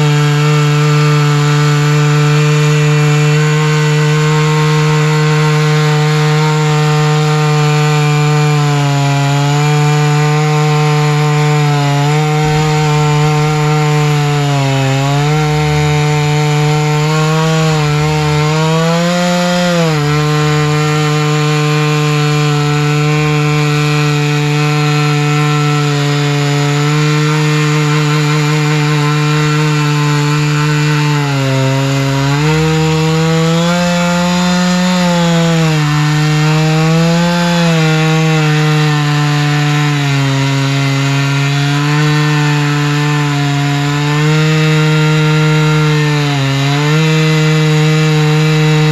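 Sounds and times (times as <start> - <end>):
chainsaw cutting through log: 0.0 - 48.9.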